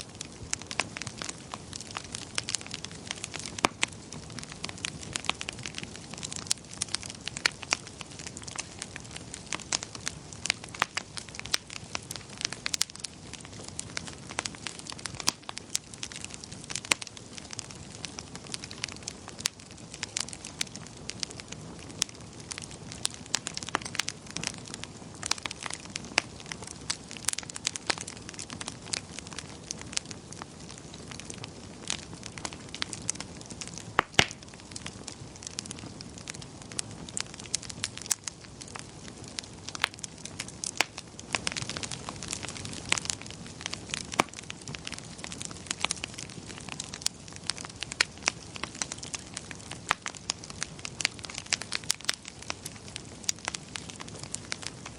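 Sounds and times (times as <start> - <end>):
soft hiss of flames: 0.0 - 54.9
wood fire crackling and popping: 0.0 - 54.9.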